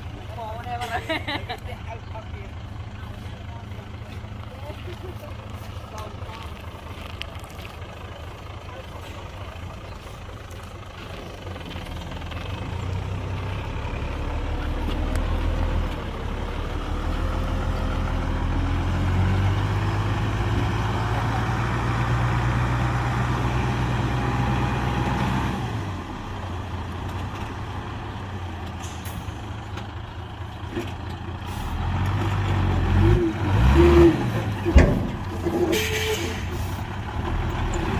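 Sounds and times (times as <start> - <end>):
diesel engine under load: 0.0 - 37.9.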